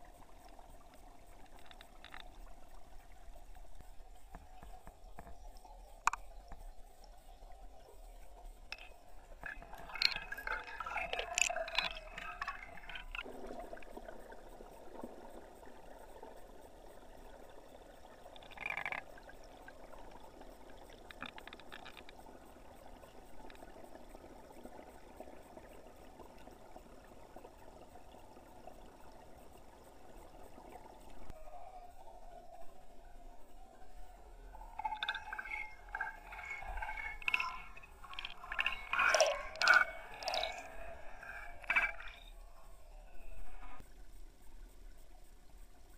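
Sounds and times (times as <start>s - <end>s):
muffled underwater water rushing: 0.0s - 45.9s.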